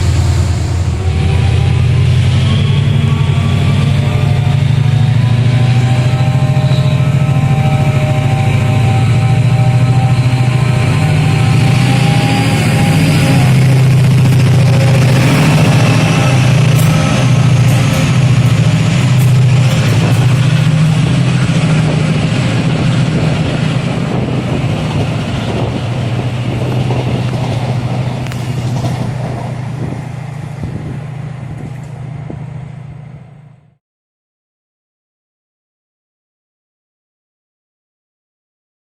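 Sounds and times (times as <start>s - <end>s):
train rumbling: 0.0s - 33.8s.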